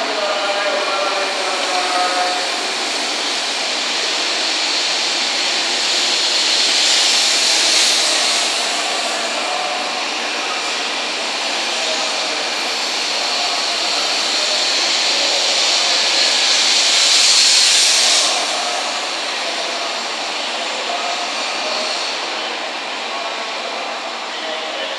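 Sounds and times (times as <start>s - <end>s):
train rushing past: 0.0s - 24.9s.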